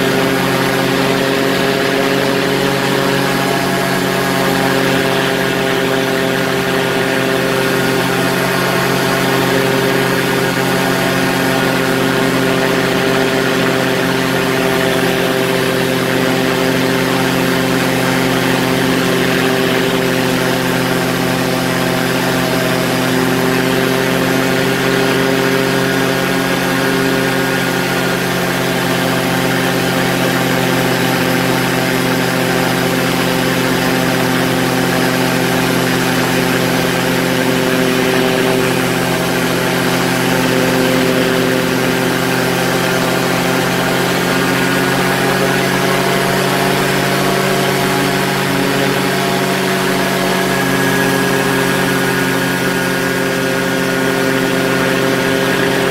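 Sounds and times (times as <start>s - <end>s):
aircraft engine and propeller running: 0.0s - 55.9s.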